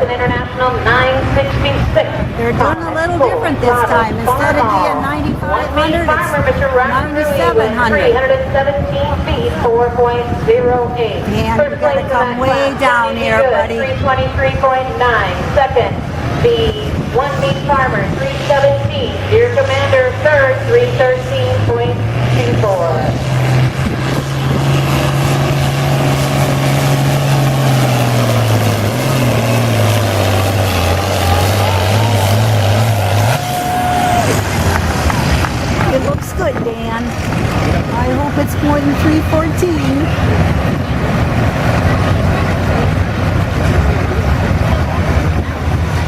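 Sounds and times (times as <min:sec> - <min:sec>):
tractor engine running hard: 0:00.0 - 0:46.0.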